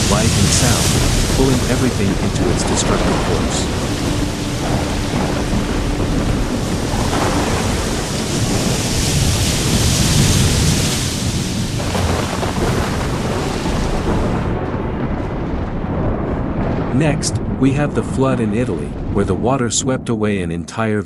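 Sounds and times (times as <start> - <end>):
heavy rain hiss: 0.0 - 15.1, 16.7 - 19.6
deep rolling thunder: 0.0 - 20.7.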